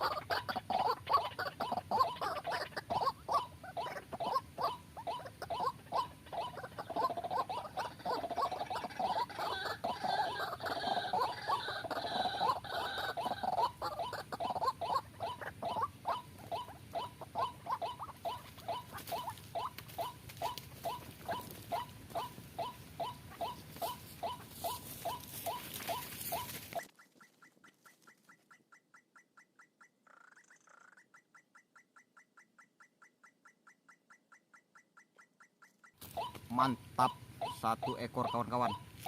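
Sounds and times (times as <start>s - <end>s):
waterhen calling harsh notes: 0.0s - 27.8s, 29.1s - 39.0s.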